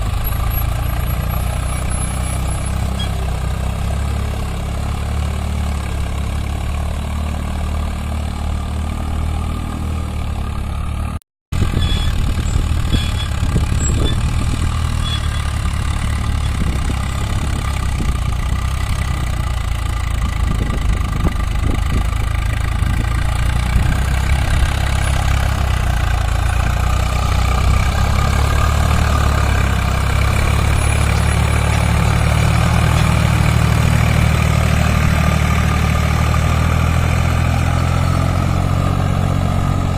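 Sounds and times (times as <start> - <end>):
tractor diesel engines running: 0.0 - 39.9.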